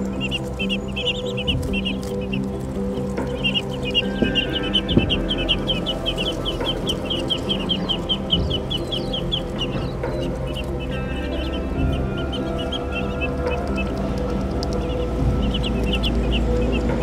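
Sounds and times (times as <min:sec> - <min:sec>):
background music: 0:00.0 - 0:17.0
ducklings peeping: 0:00.0 - 0:17.0.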